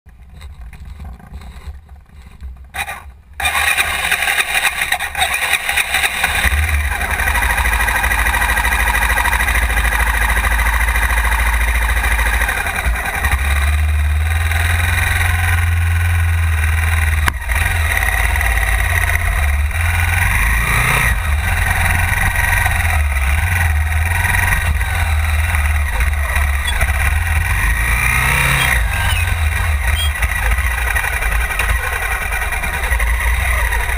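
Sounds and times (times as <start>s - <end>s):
motorcycle engine rumbling: 0.1s - 33.9s.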